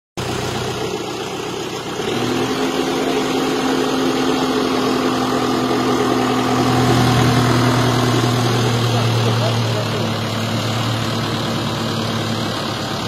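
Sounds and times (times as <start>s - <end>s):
hydraulic whine: 0.2s - 13.0s
tractor engine running: 0.2s - 13.0s.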